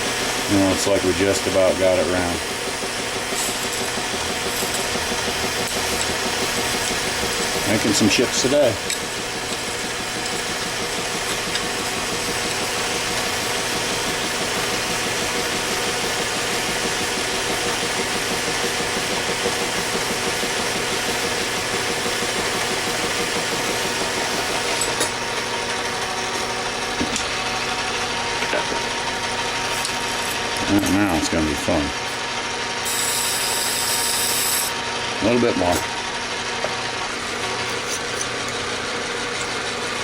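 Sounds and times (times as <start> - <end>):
metal lathe humming: 0.0 - 40.0.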